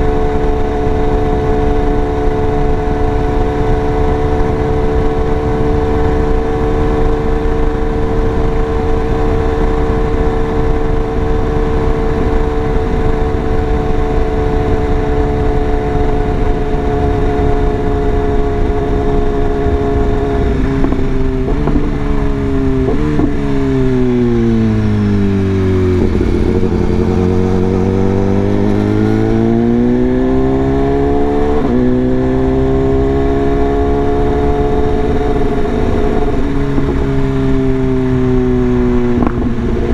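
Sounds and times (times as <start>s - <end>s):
motorcycle engine revving and shifting: 0.0s - 39.9s.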